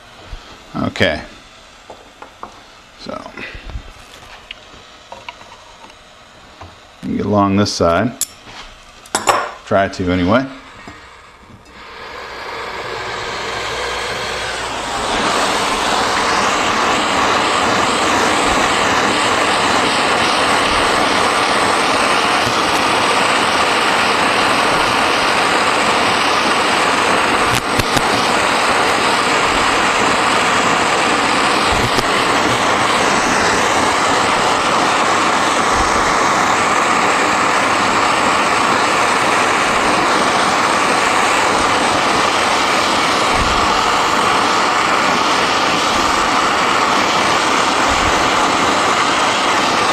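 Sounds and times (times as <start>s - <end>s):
gas torch hissing roar: 0.0s - 49.9s.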